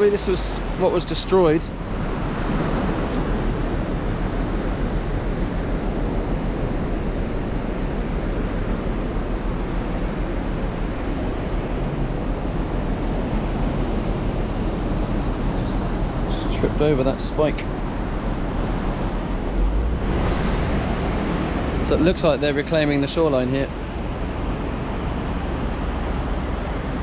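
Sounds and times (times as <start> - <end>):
sea surf on beach: 0.0 - 27.0
wind across microphone: 0.0 - 27.0.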